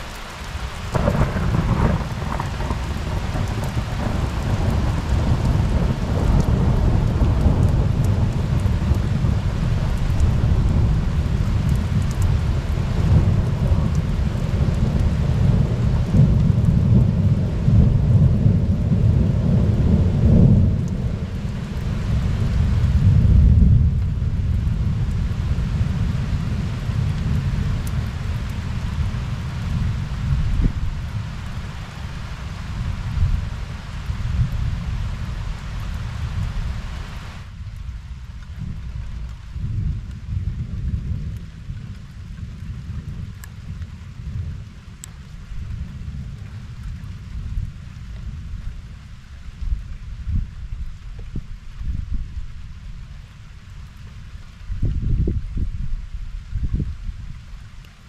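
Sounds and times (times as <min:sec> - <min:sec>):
thunder rumbling: 0:00.0 - 0:53.1
steady rain: 0:00.0 - 0:58.0.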